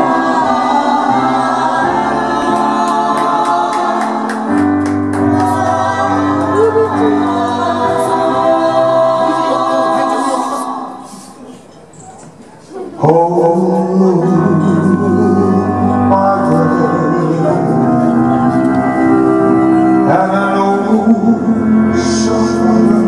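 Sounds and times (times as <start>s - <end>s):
singer with backing voices: 0.0s - 11.6s, 12.7s - 23.0s.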